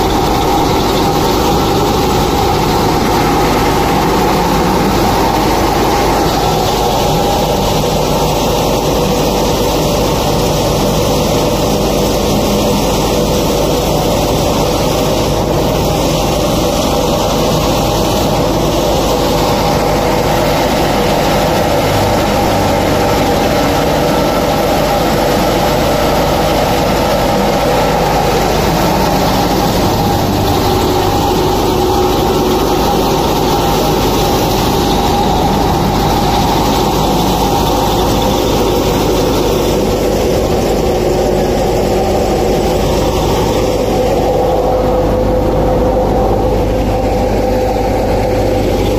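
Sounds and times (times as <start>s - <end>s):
threshing machine drone: 0.0s - 48.9s.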